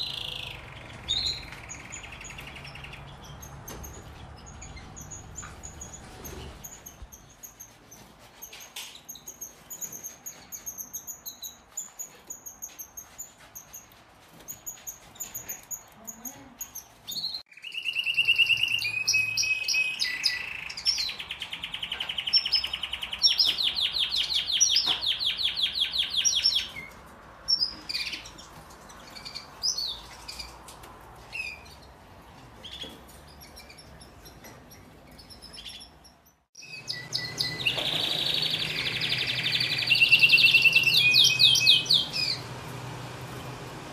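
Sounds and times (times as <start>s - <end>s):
canary chirps: 0.0s - 42.8s.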